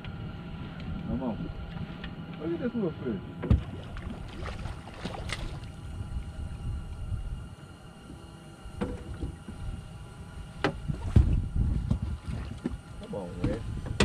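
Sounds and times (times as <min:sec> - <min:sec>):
faint hum: 0:00.0 - 0:14.0
low rumble: 0:00.0 - 0:14.0.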